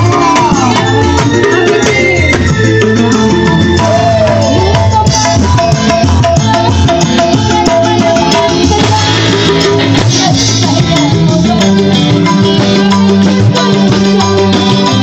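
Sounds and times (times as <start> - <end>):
bass guitar: 0.0 - 15.0
drums: 0.0 - 15.0
electric keyboard melody: 0.0 - 15.0
rattling hand drum rhythm: 0.0 - 15.0.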